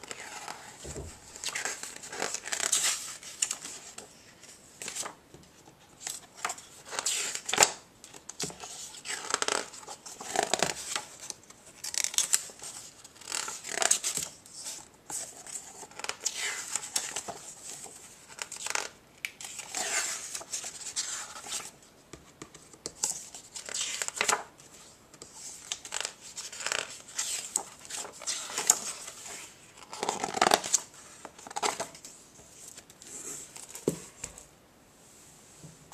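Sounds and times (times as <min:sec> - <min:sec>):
book pages rustling: 0:00.0 - 0:34.5.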